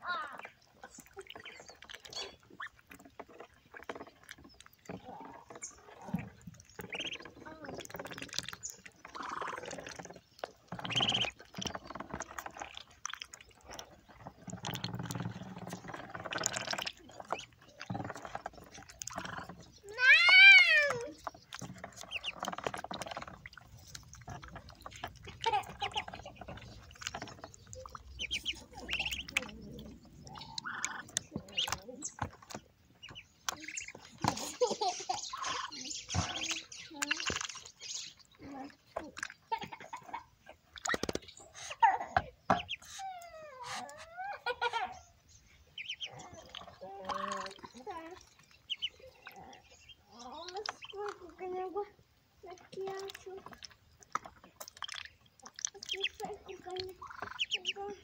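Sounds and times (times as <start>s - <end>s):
ducklings splashing in water: 0.0s - 58.0s.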